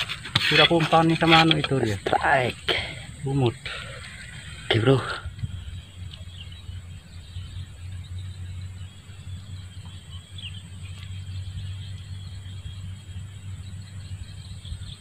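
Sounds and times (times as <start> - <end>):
low rumble: 1.5 - 15.0.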